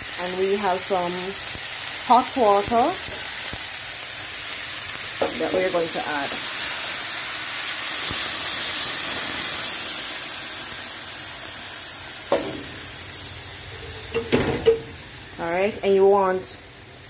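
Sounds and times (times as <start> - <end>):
water sizzling in hot pan: 0.0 - 17.0.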